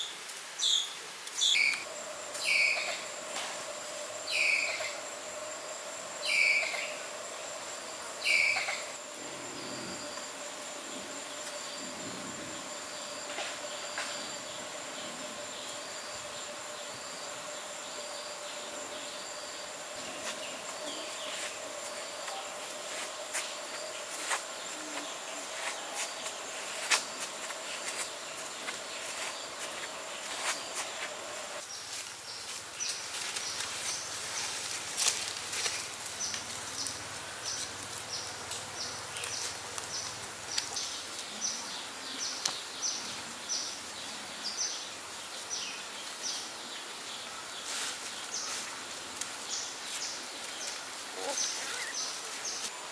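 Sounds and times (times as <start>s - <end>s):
insects chirping: 0.0s - 52.9s
insects droning: 0.0s - 52.9s.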